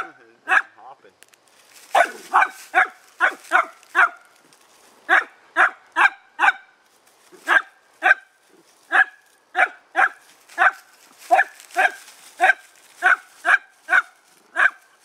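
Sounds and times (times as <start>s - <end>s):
dog barking: 0.0s - 0.8s, 1.9s - 4.3s, 5.1s - 6.7s, 7.5s - 15.0s.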